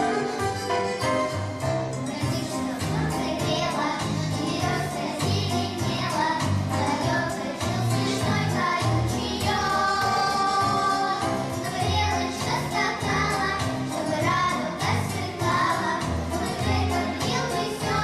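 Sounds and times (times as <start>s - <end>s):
instrumental accompaniment: 0.0s - 18.0s
children's choir singing: 2.0s - 18.0s.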